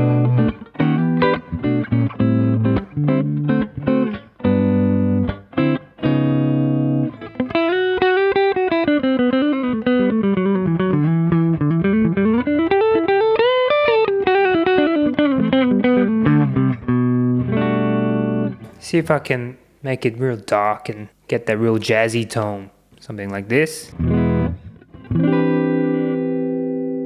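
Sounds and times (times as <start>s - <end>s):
clean electric guitar: 0.0s - 27.0s.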